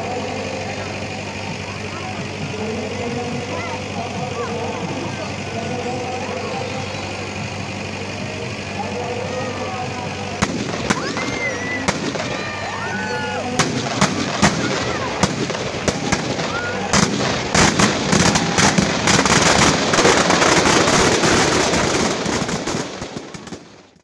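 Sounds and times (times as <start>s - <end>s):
firecrackers exploding: 1.0s - 24.0s.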